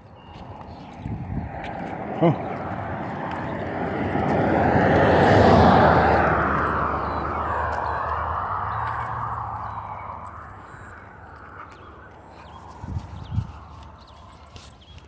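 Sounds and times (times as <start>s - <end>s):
vehicle passing: 0.1s - 15.0s.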